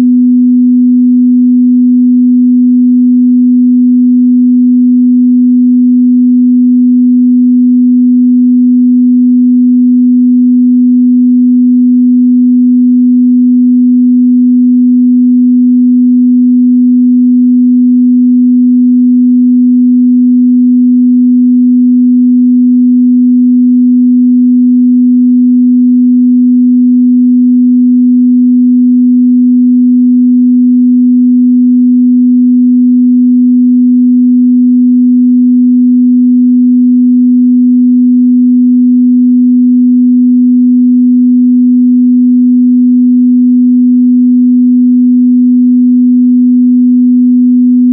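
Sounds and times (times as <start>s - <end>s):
sine-wave test tone: 0.0s - 47.9s.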